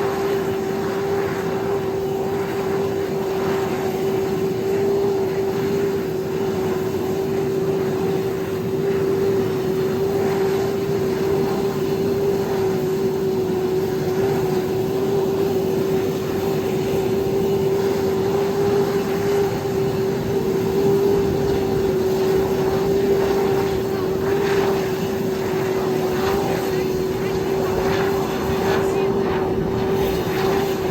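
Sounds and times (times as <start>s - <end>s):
jet engines running: 0.0s - 30.9s.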